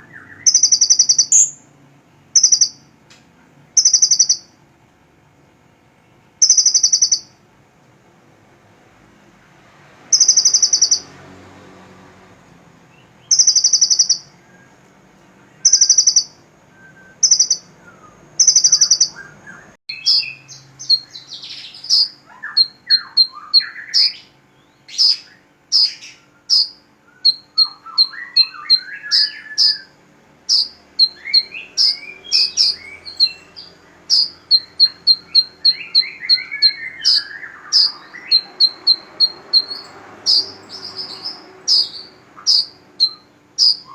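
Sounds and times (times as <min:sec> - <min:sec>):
songbirds singing: 0:00.0 - 0:07.6, 0:09.8 - 0:43.9.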